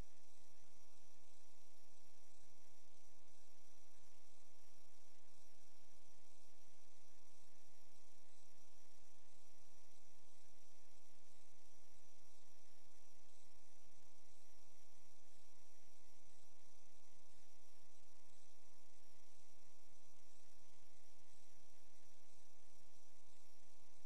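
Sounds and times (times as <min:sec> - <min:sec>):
buzzy electrical mains hum: 0:00.0 - 0:24.0.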